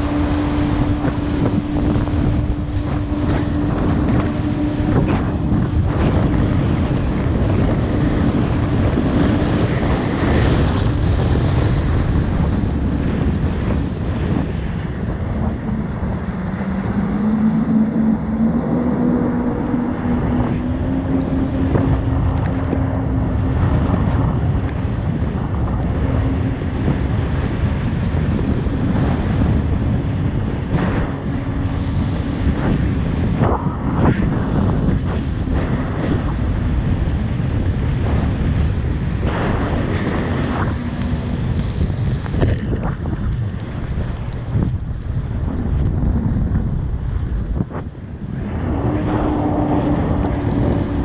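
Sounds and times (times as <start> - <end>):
jet ski engine running: 0.0 - 51.0
wind buffeting microphone: 0.0 - 51.0.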